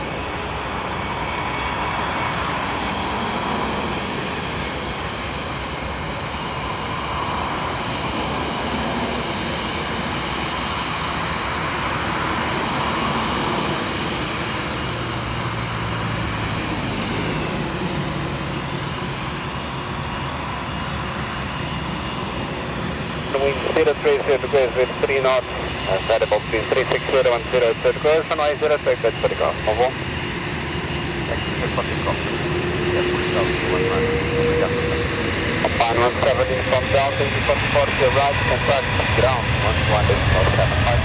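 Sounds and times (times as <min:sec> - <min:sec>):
jet engines running with whine: 0:00.0 - 0:41.0.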